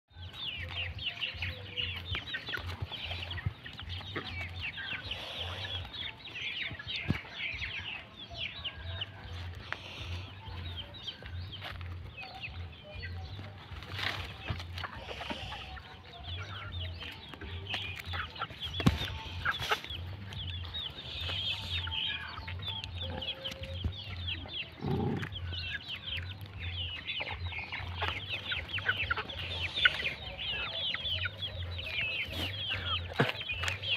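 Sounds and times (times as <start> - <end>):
chicks peeping and clucking: 0.1 - 33.9.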